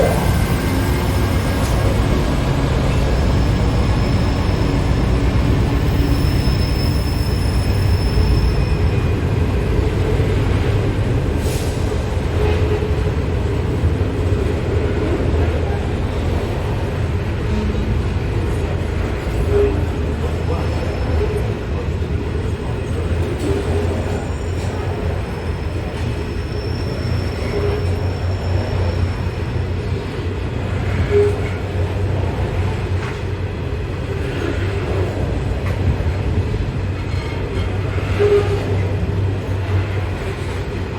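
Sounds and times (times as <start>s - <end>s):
electric train rumble: 0.0s - 40.9s.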